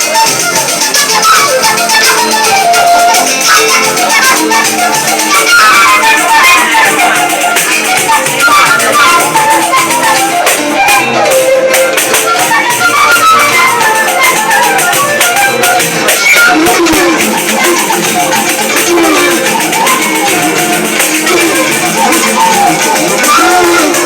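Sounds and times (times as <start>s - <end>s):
shaker: 0.0s - 10.9s, 11.8s - 24.0s
fife playing fast melody: 0.0s - 24.0s
hand percussion: 0.0s - 24.0s.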